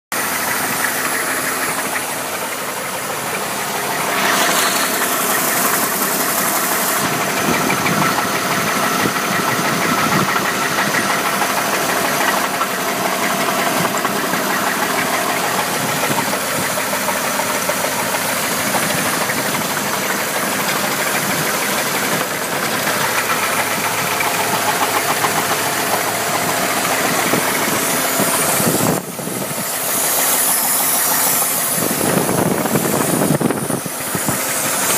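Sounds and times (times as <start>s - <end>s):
car engine running: 0.0s - 34.9s
rapid engine knock: 0.1s - 34.9s.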